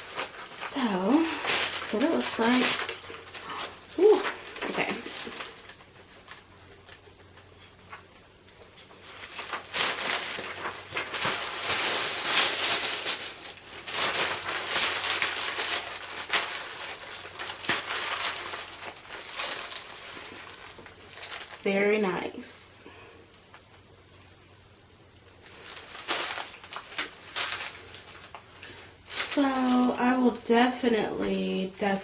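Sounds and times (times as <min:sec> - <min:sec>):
packaging rustling and crinkling: 0:00.0 - 0:22.5, 0:25.2 - 0:32.0.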